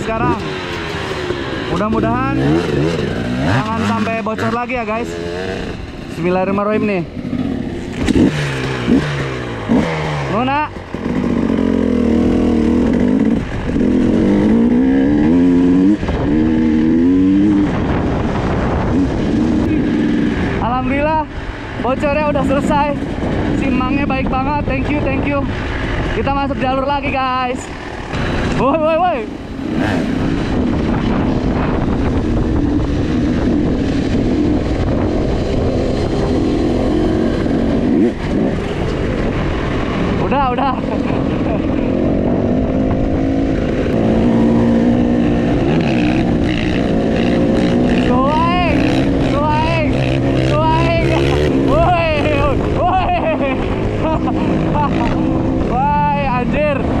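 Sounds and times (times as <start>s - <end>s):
dirt bike engine accelerating: 0.0s - 57.0s.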